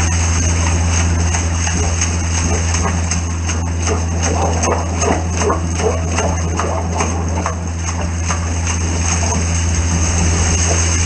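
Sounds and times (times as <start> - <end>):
low engine hum: 0.0 - 11.0
water gushing into chamber: 0.0 - 11.0.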